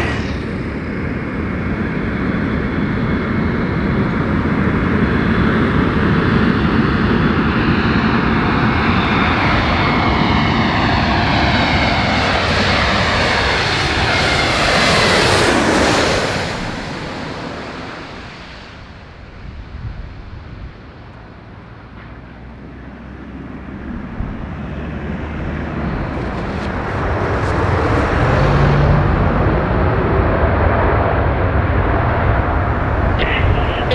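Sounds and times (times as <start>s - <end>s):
jet airliner passing overhead: 0.0s - 33.9s.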